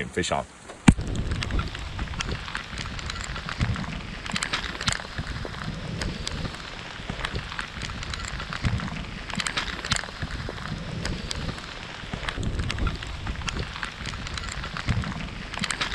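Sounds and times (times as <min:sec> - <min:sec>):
rain hissing: 0:00.0 - 0:15.9
sharp taps of raindrops: 0:00.6 - 0:15.9.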